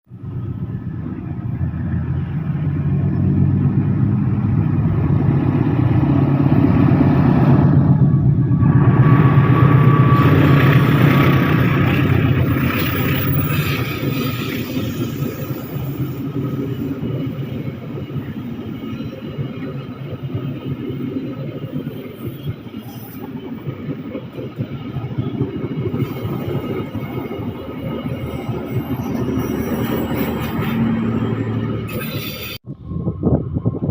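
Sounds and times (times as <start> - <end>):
train rumbling along rails: 0.1 - 33.9.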